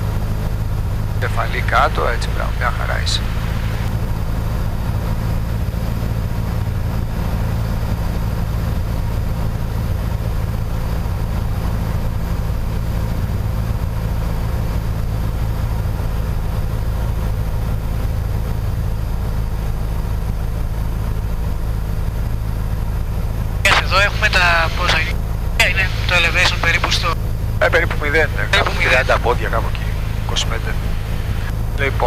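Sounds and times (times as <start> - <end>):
small plane engine droning: 0.0 - 32.0.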